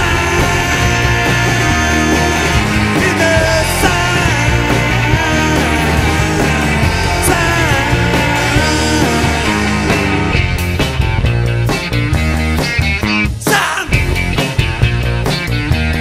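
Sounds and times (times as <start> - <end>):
electric guitar lead line: 0.0 - 16.0
rock band playing live: 0.0 - 16.0.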